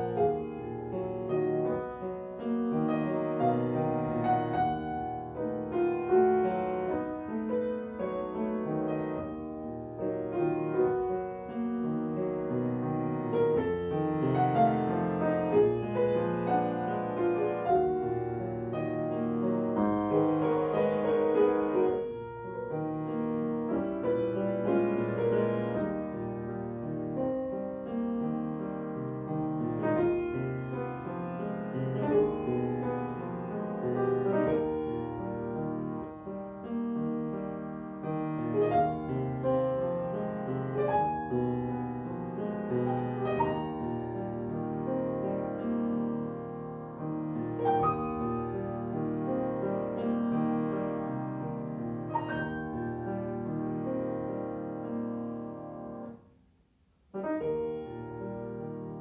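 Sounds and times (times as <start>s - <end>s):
solo classical piano: 0.0s - 59.0s.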